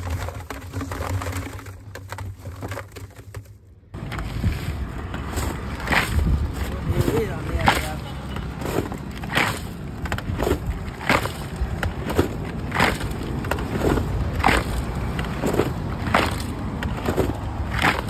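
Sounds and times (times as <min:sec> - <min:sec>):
ice crunching in clay pot: 0:00.0 - 0:18.0.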